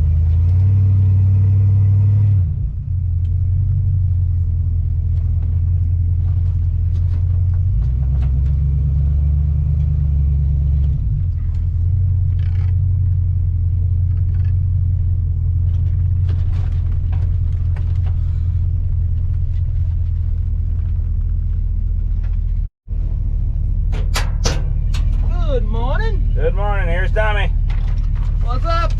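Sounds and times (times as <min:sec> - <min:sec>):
vehicle engine and road rumble: 0:00.0 - 0:28.9.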